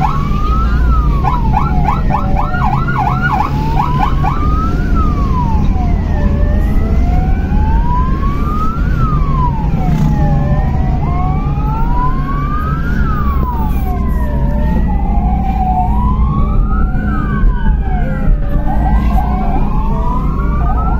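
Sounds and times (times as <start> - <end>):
ambulance sirens wailing: 0.0 - 20.9
engine and road noise: 0.0 - 20.9.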